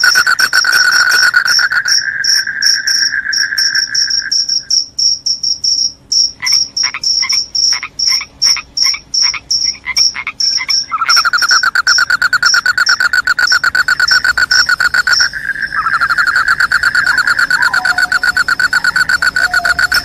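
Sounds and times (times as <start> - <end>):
cricket pulsed trill: 0.0 - 20.0
high cricket chirp: 0.0 - 20.0.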